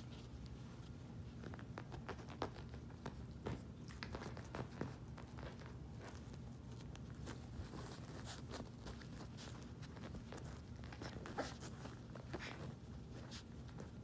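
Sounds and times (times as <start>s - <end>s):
low steady hum: 0.0s - 14.0s
puppy paws on carpet: 0.0s - 14.0s.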